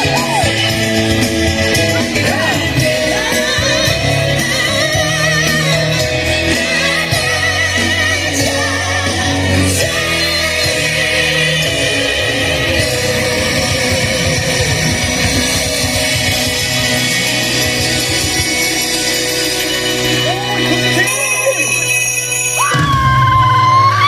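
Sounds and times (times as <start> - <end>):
person singing with vibrato: 0.0 - 21.8
instrumental accompaniment: 0.0 - 24.0.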